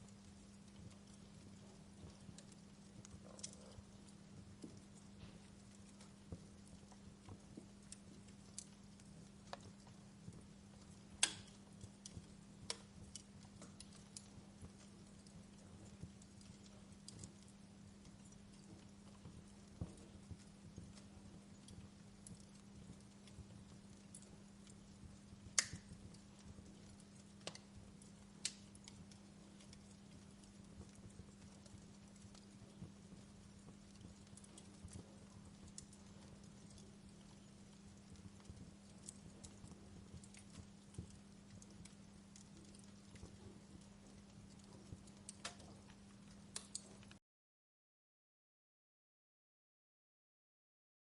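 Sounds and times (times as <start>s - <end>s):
faint low hum: 0.0s - 47.2s
wood fire crackling: 0.0s - 47.2s.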